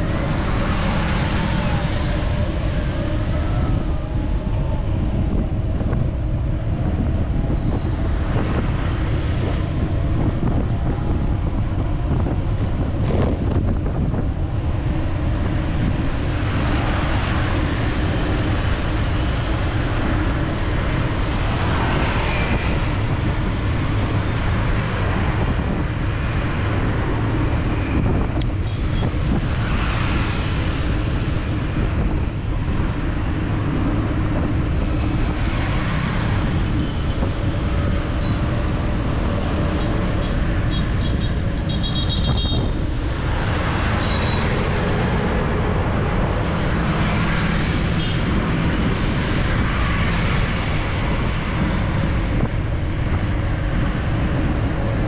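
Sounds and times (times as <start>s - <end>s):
passing motor vehicles: 0.0s - 55.0s.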